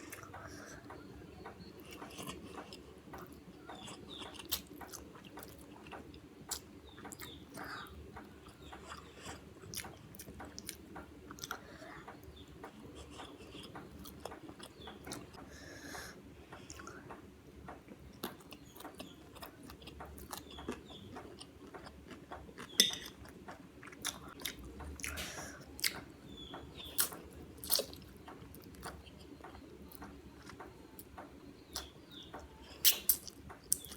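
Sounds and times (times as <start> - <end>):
chewing and wet mouth sounds: 0.0 - 33.9.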